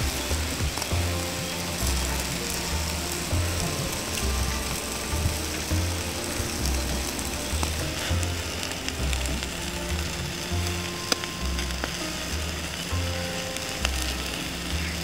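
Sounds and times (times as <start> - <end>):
charcoal embers sizzling: 0.0 - 15.0
embers crackling: 0.0 - 15.0
music with deep bass line: 0.0 - 15.0.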